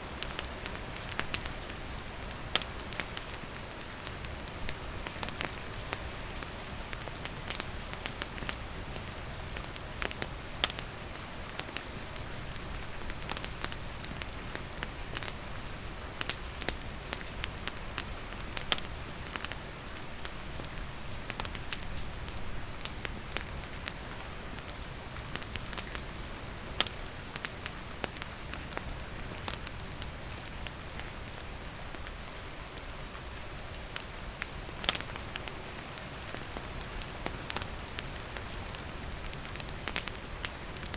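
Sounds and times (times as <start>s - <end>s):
rain falling: 0.0s - 40.9s
campfire crackling and popping: 0.1s - 32.2s, 32.8s - 40.9s.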